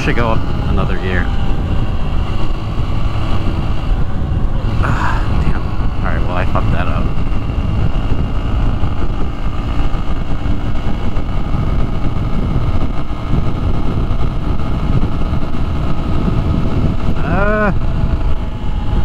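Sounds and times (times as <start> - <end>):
motorcycle engine running at speed: 0.0 - 19.0
wind noise on microphone: 0.0 - 19.0.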